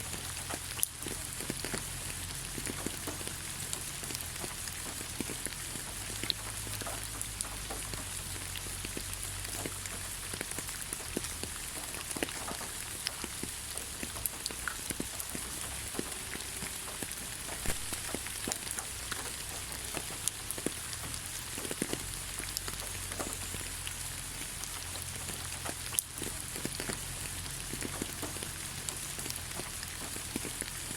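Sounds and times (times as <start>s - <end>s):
rain falling on leaves: 0.0s - 30.9s.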